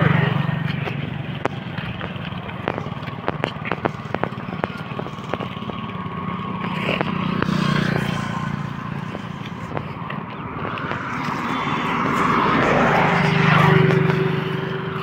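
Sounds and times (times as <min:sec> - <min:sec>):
car approaching: 0:00.0 - 0:15.0
vehicle engine hum: 0:00.0 - 0:15.0
sharp clicks: 0:00.7 - 0:14.4.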